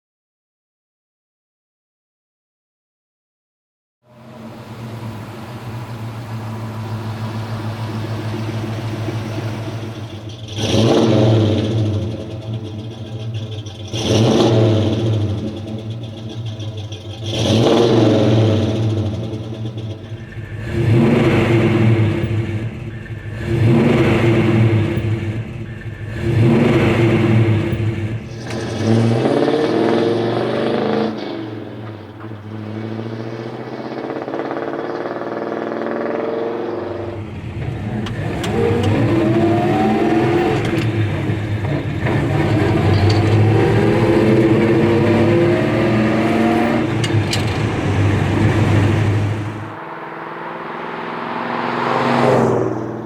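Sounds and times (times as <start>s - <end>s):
truck accelerating through gears: 4.1s - 53.0s
pickup truck engine revving: 4.2s - 53.0s.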